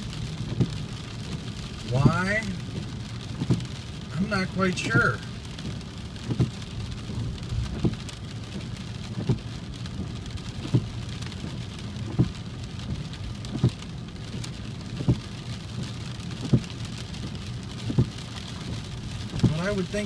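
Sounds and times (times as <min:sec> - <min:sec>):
car hum on wet road: 0:00.0 - 0:20.0
rain on windshield: 0:00.0 - 0:20.0
windshield wipers thumping: 0:00.1 - 0:20.0.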